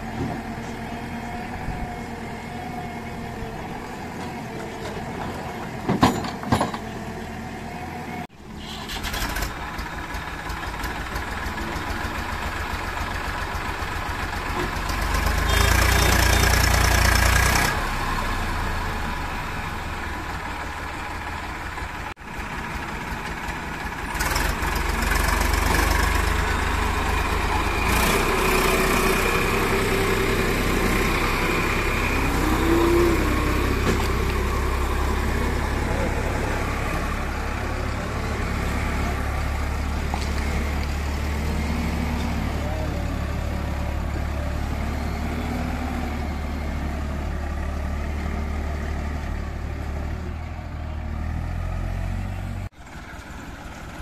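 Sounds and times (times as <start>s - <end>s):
diesel engines running: 0.0s - 54.0s
tractor pulling trolley away: 0.0s - 54.0s.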